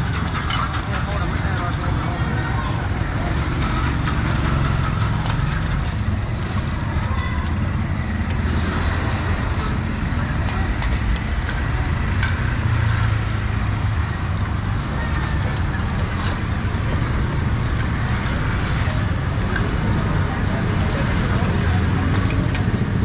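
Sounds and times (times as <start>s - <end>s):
traffic rumble: 0.0s - 23.0s
voices: 0.0s - 23.0s.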